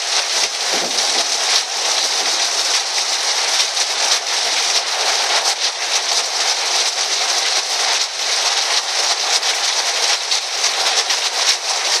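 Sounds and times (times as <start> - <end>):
heavy rain on a tin roof: 0.0 - 12.0.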